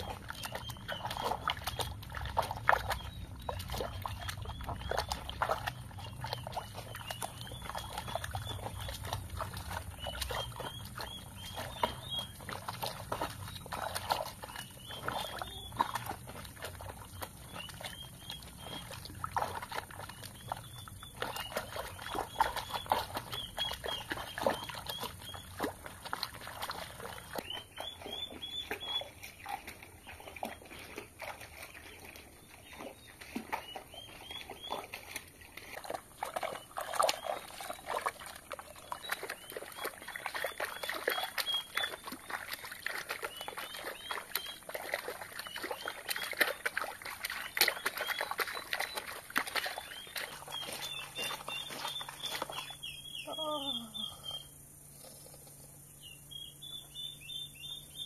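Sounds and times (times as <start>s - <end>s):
feet sloshing in soapy water: 0.0s - 53.9s.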